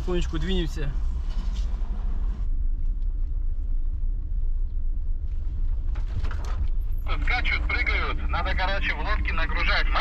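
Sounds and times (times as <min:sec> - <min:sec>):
vehicle rumbling on road: 0:00.0 - 0:10.0.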